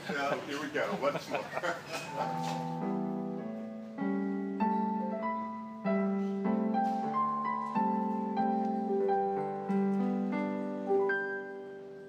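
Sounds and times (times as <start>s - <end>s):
slow solo piano piece: 2.1s - 12.0s.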